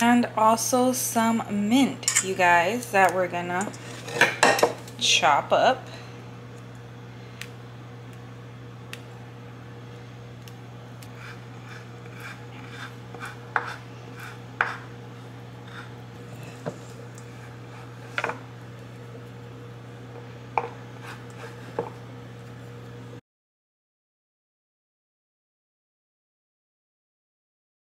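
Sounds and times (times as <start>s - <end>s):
steady low hum: 0.0s - 23.2s.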